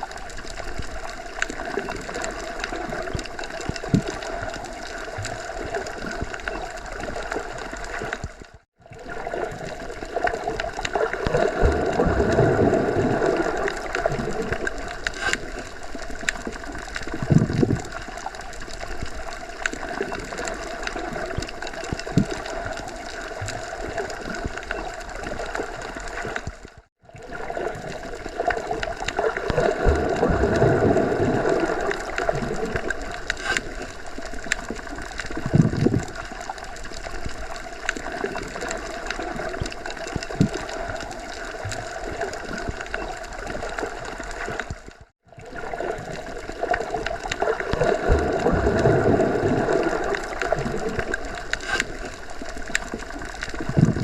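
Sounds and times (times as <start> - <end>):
muffled underwater rush: 0.0 - 54.0.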